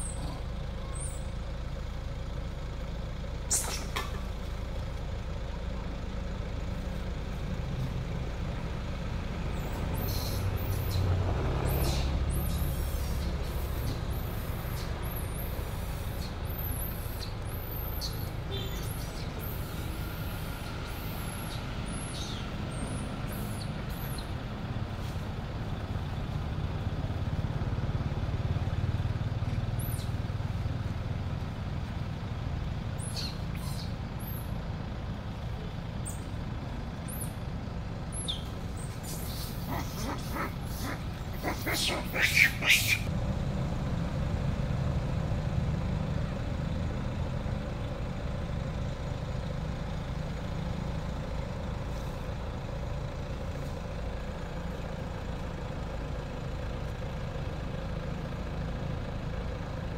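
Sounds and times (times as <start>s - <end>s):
distant traffic rumble: 0.0s - 59.9s.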